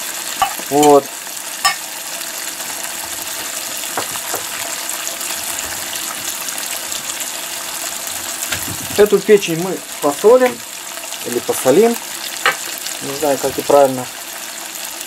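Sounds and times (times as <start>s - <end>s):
liver sizzling in oil: 0.0s - 15.0s.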